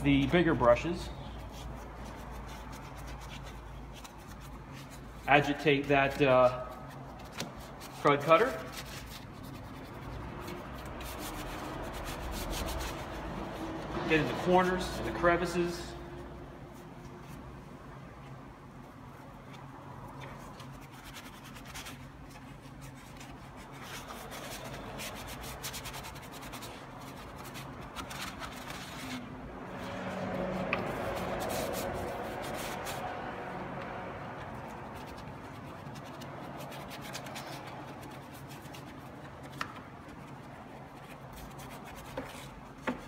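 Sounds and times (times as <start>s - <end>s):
paint brush scrubbing plastic: 0.0s - 17.5s, 19.2s - 43.0s.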